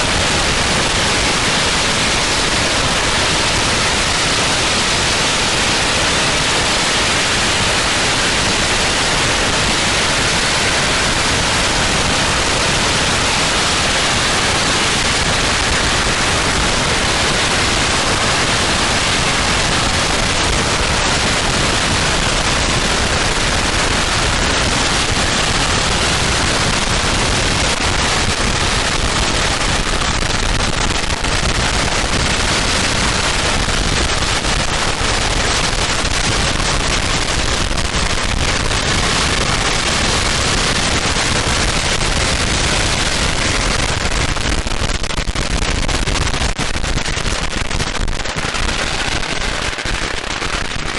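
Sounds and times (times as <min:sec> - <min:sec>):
firecrackers crackling: 0:00.0 - 0:50.9.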